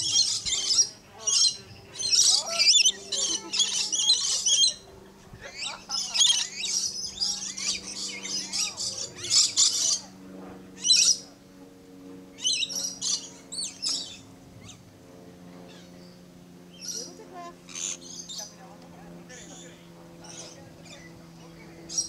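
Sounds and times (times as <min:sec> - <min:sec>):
birds chirping and screeching: 0:00.0 - 0:11.4, 0:12.3 - 0:14.9, 0:15.6 - 0:18.6, 0:19.2 - 0:22.0.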